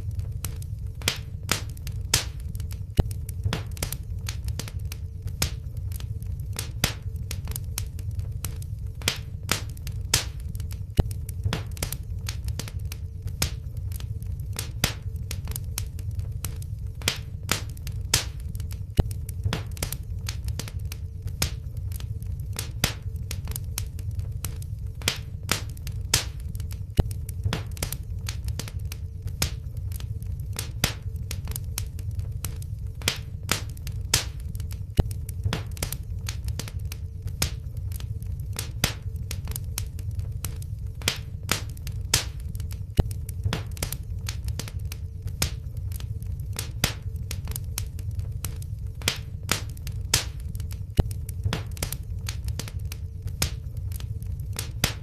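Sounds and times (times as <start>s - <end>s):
sharp pops of fire: 0.0s - 55.0s
wood fire crackling: 0.0s - 55.0s.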